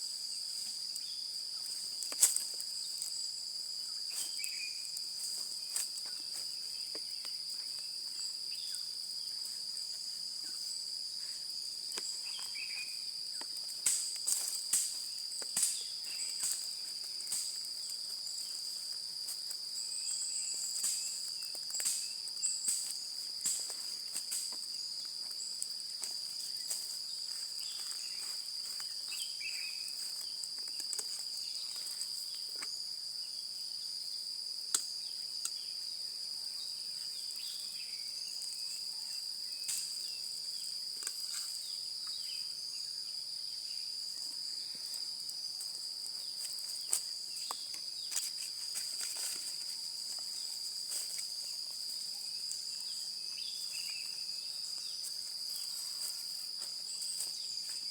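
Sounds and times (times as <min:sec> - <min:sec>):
high-pitched insect chorus: 0:00.0 - 0:57.9.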